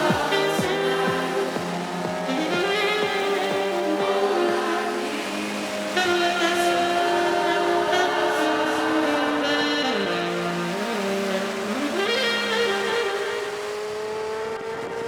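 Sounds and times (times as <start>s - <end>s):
background music with held chords: 0.0s - 14.4s.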